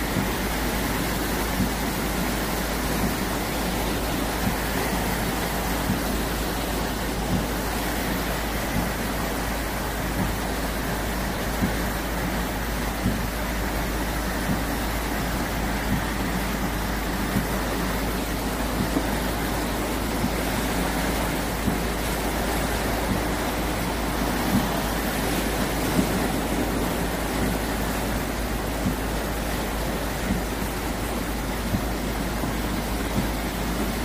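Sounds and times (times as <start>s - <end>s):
heavy rain: 0.0s - 34.0s
stream rushing: 0.0s - 34.0s.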